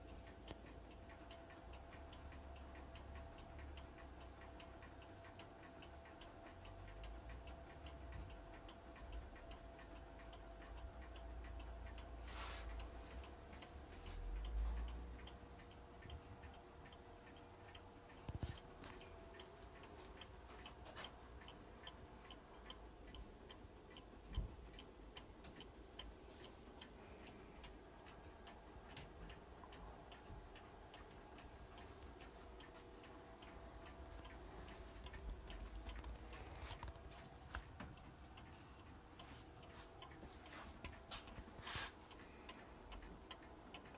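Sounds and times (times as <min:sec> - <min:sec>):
clock ticking: 0:00.0 - 0:43.9.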